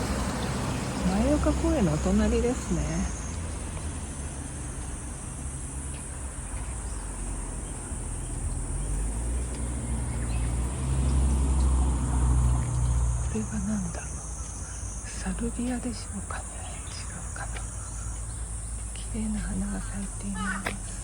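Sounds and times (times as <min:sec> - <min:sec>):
insect trill: 0:00.0 - 0:21.0
passing vehicle engine rumble: 0:00.0 - 0:21.0.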